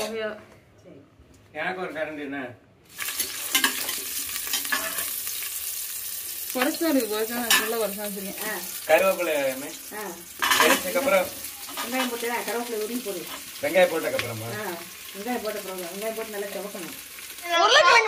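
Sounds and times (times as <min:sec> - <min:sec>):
food sizzling in hot oil: 0:02.9 - 0:18.0.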